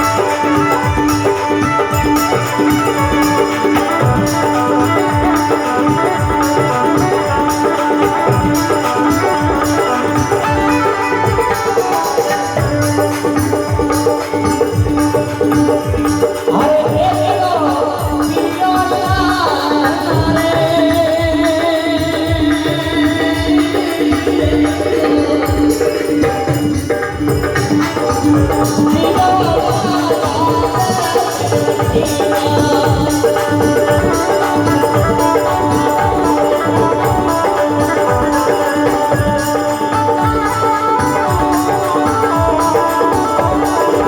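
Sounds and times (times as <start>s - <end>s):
hand drum beat: 0.0s - 44.0s.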